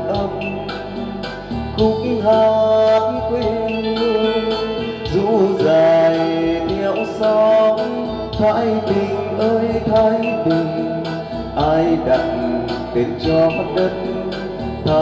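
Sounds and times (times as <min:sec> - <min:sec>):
karaoke backing music: 0:00.0 - 0:15.0.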